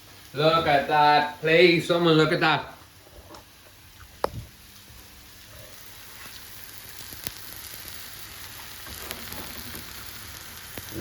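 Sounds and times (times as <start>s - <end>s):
pancakes sizzling in a pan: 2.2s - 11.0s.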